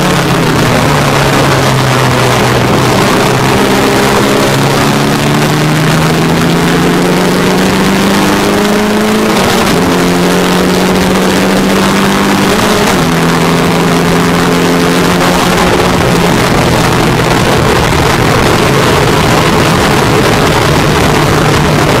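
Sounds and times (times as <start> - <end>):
race car engine under load: 0.0 - 22.0
wind rush: 0.0 - 22.0.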